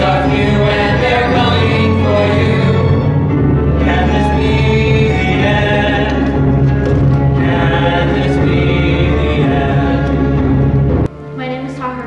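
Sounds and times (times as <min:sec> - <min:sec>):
youth choir singing held notes: 0:00.0 - 0:10.9
string orchestra: 0:00.0 - 0:11.2.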